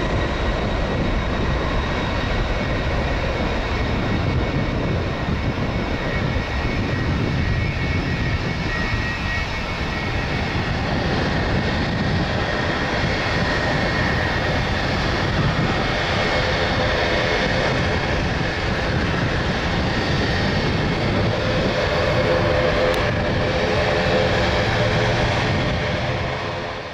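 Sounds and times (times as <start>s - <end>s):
high jet whine: 0.0s - 26.9s
jet airliner taking off: 0.0s - 26.9s.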